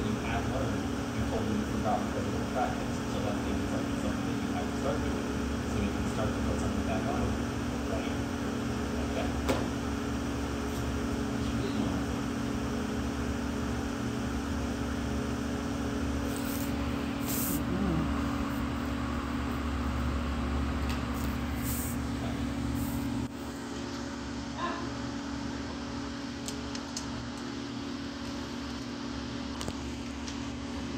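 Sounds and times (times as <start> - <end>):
ventilation hum: 0.0 - 30.9.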